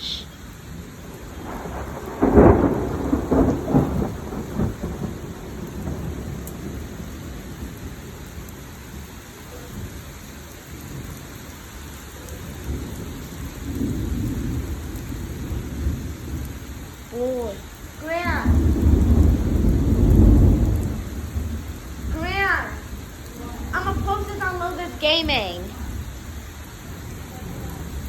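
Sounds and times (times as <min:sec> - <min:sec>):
thunder rumbling: 0:00.0 - 0:08.5, 0:12.6 - 0:28.0
steady rain: 0:00.0 - 0:28.0.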